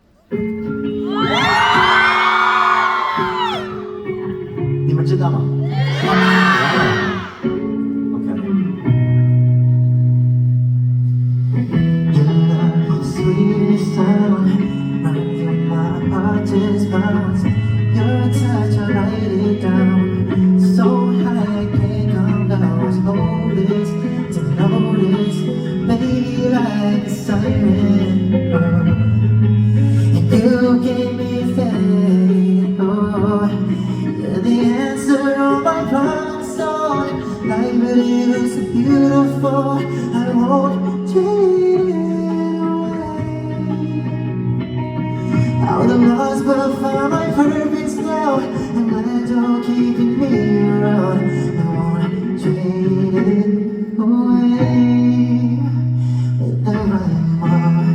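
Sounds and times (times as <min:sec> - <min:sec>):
band playing slow song: 0:00.0 - 0:57.9
picked guitar notes: 0:00.0 - 0:57.9
person singing: 0:00.2 - 0:09.0, 0:12.0 - 0:57.9.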